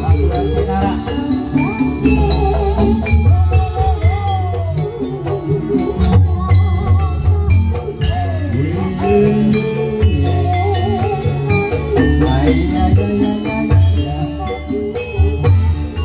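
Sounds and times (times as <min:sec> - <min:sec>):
hand drums: 0:00.0 - 0:16.0
metallic percussion: 0:00.0 - 0:16.0
person singing wavering vocal: 0:00.0 - 0:16.0.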